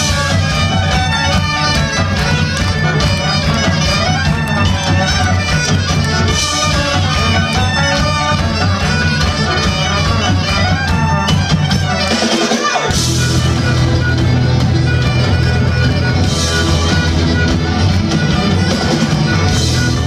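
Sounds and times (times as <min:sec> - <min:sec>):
live band with horn section: 0:00.0 - 0:20.0.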